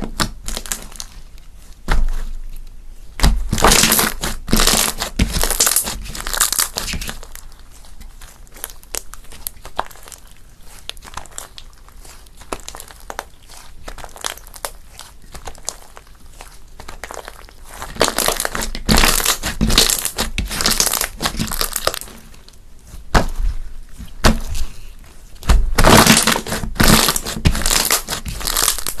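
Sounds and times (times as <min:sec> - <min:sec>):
slime crackling and popping: 0:00.0 - 0:23.4, 0:25.4 - 0:29.0.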